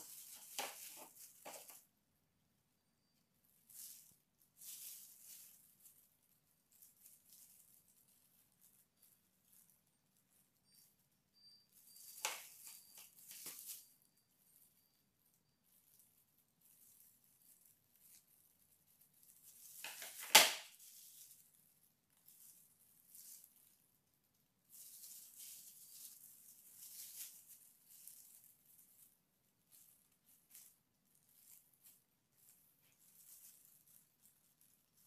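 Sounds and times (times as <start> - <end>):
plastic gloves crinkling: 0.0 - 2.2, 3.2 - 35.0.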